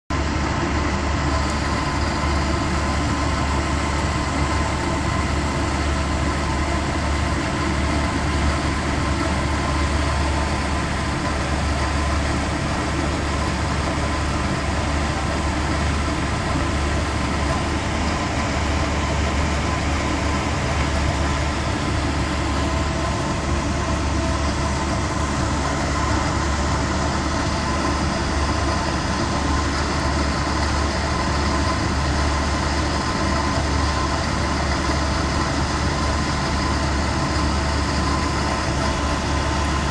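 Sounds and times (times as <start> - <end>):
mechanical hum with low drone: 0.1 - 39.9
steady whining tones: 0.2 - 39.9.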